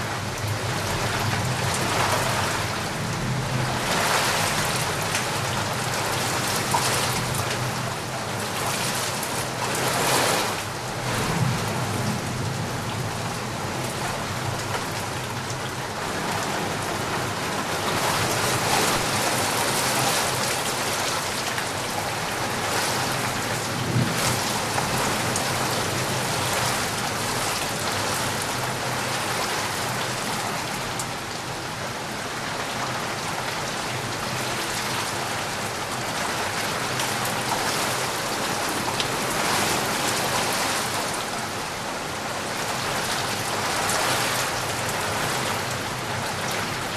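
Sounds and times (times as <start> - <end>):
steady rain pattering: 0.0 - 46.9.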